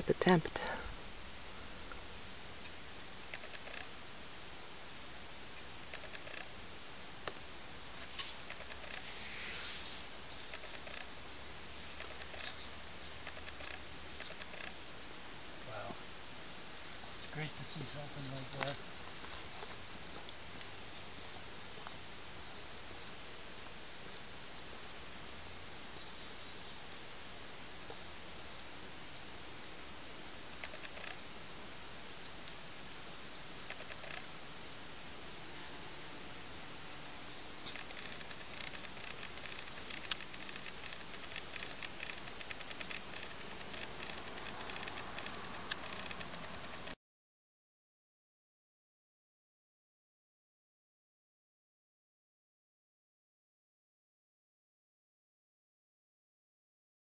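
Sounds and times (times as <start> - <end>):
insects trilling: 0.0 - 47.0
rapidly pulsing insect trill: 0.0 - 47.0.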